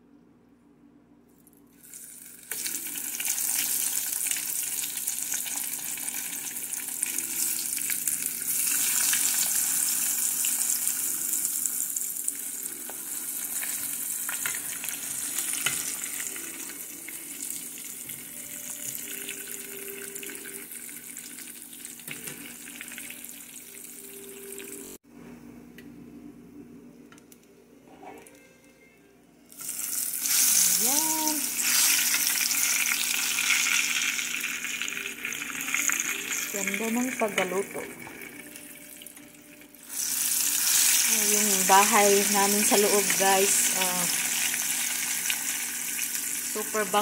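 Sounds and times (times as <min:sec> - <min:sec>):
fish sizzling in hot oil: 0:01.8 - 0:24.8, 0:29.5 - 0:47.0.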